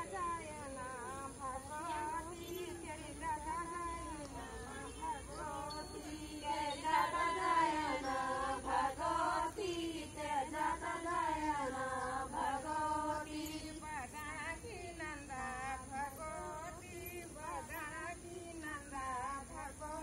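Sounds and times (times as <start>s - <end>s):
women singing in unison: 0.0s - 20.0s.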